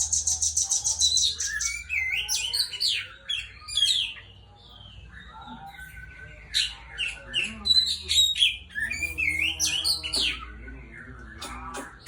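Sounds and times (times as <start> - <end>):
bird singing whistles and chatter: 0.0 - 12.0.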